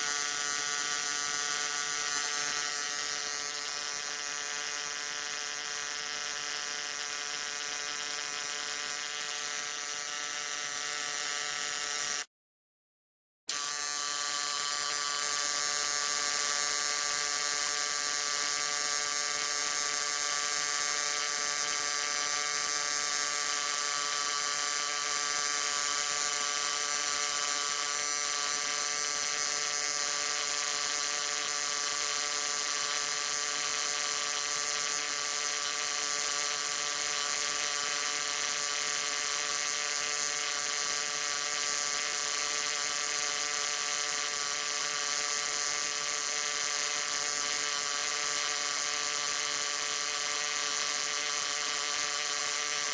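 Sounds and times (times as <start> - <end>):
electric arc buzzing: 0.0 - 12.3, 13.5 - 52.9.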